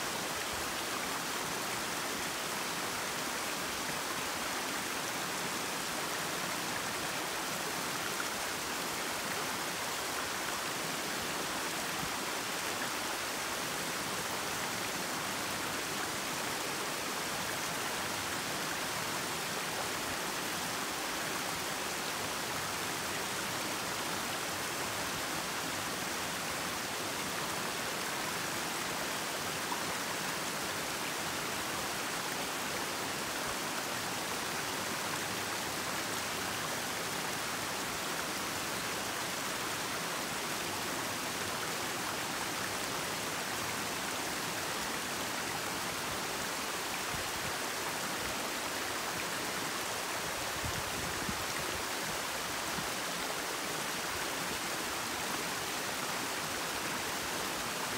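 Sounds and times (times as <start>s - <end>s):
waterfall splashing over stones: 0.0s - 57.9s.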